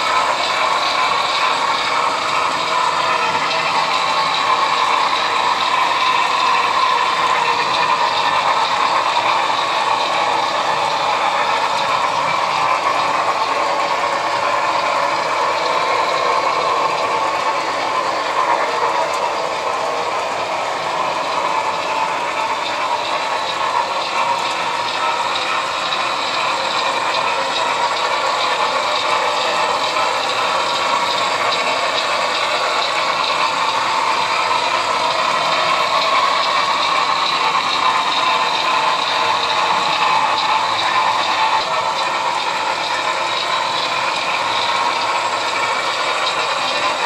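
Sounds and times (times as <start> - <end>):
model train clattering on track: 0.0 - 47.0.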